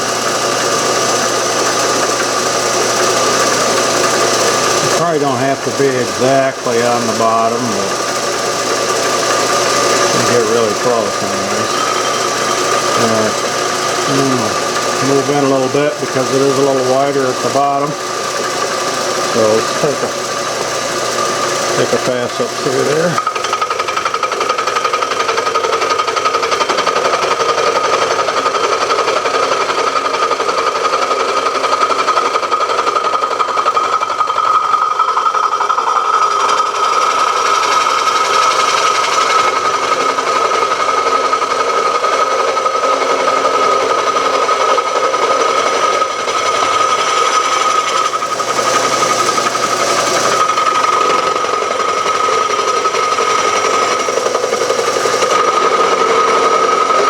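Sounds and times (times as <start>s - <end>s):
milling cutter whining in iron: 0.0s - 57.0s.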